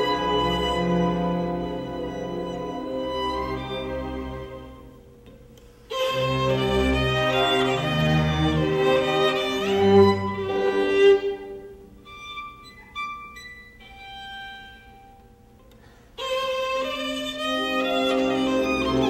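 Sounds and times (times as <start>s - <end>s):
bowed violin with accompaniment: 0.0s - 5.0s, 5.9s - 15.2s, 16.2s - 19.0s.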